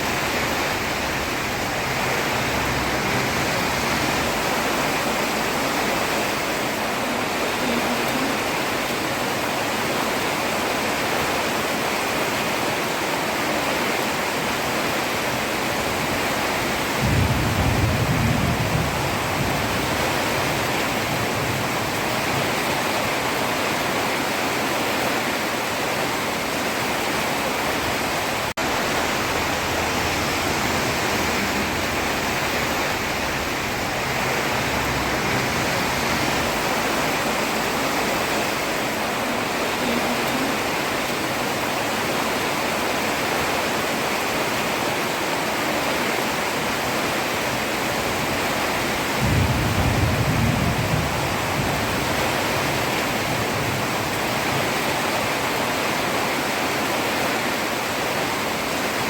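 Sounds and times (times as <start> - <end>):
heavy rain on a road: 0.0 - 59.0.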